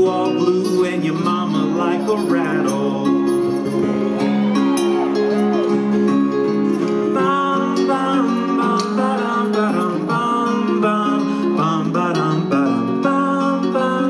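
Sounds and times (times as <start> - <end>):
acoustic band playing: 0.0 - 14.0
plucked strings and guitar: 0.0 - 14.0.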